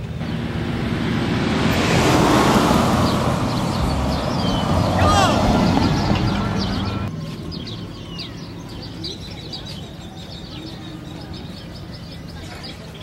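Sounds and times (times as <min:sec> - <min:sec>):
birds chirping: 0:00.0 - 0:13.0
passing traffic noise: 0:00.0 - 0:13.0.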